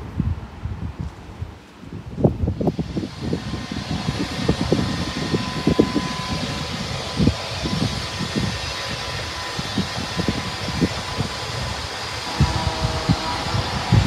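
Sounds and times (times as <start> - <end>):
wind buffeting microphone: 0.0 - 14.0
diesel locomotive engine hum: 2.5 - 14.0.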